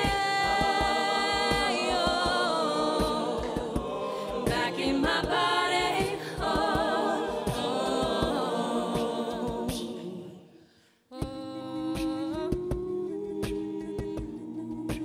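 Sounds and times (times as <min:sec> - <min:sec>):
woman singing lead: 0:00.0 - 0:10.4, 0:11.1 - 0:15.0
sung backing harmonies: 0:00.0 - 0:15.0.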